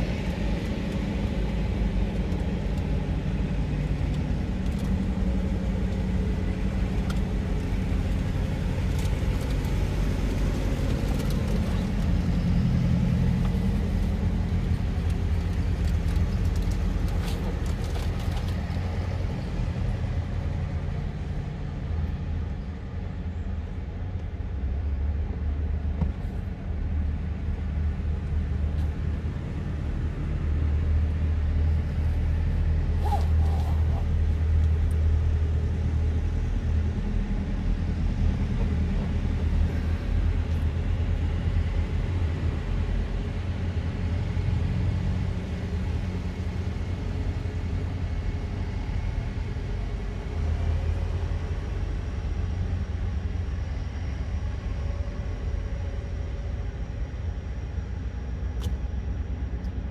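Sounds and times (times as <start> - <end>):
tractor engines passing: 0.0 - 59.9.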